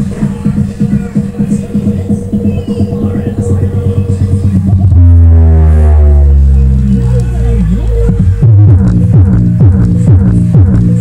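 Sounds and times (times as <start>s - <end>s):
bass-heavy electronic music: 0.0s - 11.0s.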